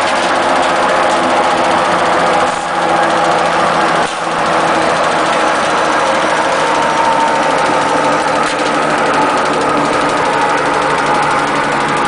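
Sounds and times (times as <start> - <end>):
wood chipper running: 0.0 - 12.0.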